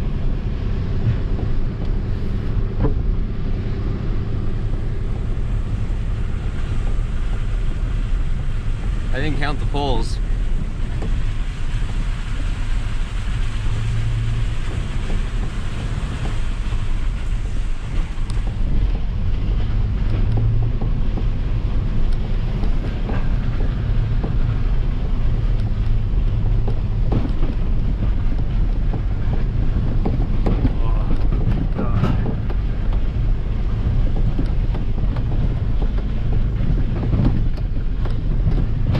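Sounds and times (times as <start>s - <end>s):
diesel engine and road noise: 0.0s - 38.9s.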